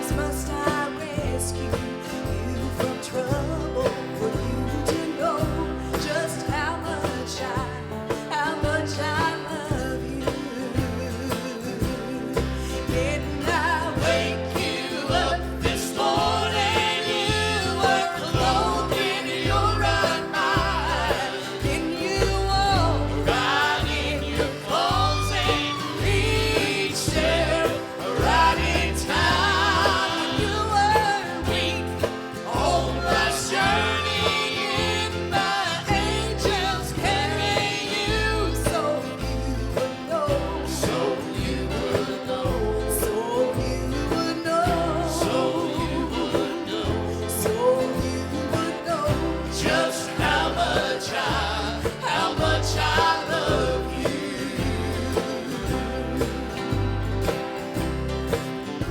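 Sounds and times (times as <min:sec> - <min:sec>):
person singing: 0:00.0 - 0:56.7
pulsing bass line: 0:00.0 - 0:58.9.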